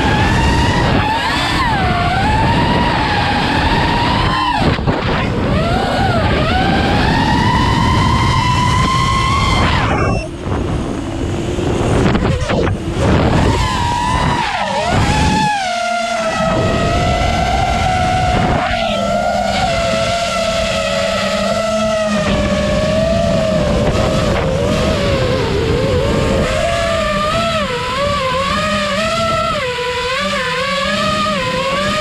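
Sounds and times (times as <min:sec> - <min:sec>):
wind rush: 0:00.0 - 0:15.6, 0:16.3 - 0:29.8
drone propellers whining: 0:00.0 - 0:32.0.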